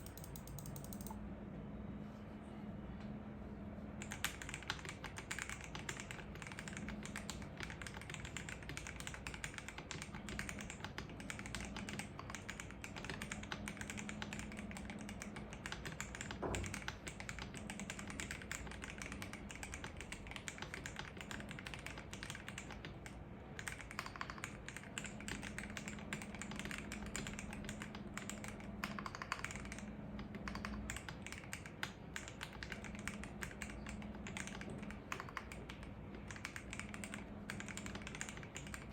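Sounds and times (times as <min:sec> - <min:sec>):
fast typing on mechanical keyboard: 0:00.0 - 0:01.2, 0:04.0 - 0:38.9
heavy keystroke: 0:00.0 - 0:01.2, 0:04.0 - 0:38.9.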